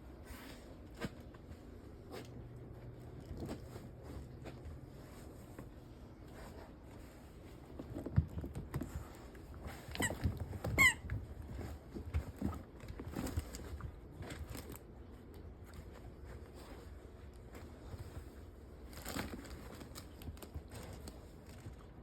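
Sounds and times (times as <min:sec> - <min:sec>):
dog rustling and pawing: 0:00.0 - 0:22.0.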